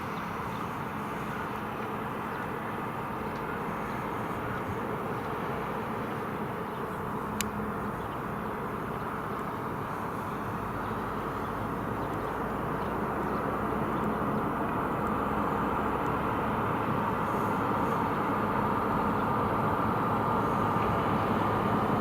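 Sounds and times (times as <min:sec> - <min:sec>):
turboprop airplane rumble: 0:00.0 - 0:22.0.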